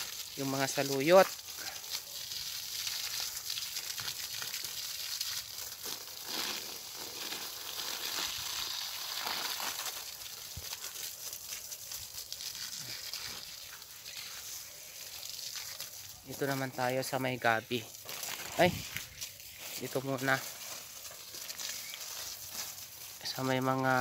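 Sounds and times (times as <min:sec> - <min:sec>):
hose water spraying on leaves: 0:00.0 - 0:24.0.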